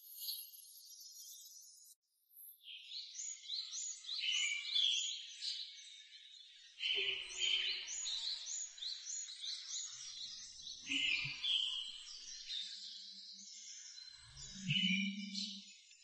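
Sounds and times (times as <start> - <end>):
birds chirping and singing: 2.8 - 16.0.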